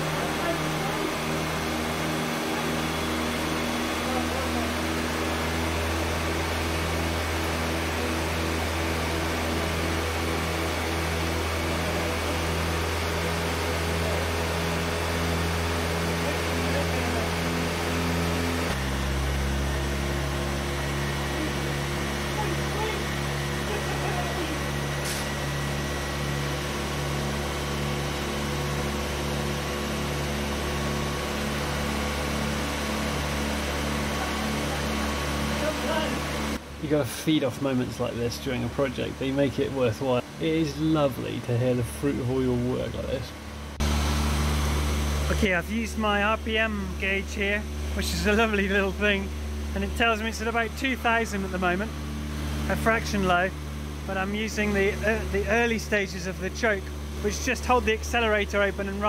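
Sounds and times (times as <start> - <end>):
car engine fast idle: 7.6 - 59.0.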